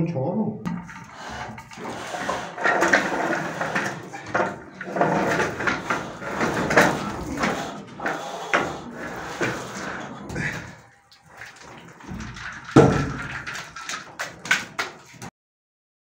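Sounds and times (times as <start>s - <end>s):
straightedge scraping wet plaster: 0.7s - 15.3s.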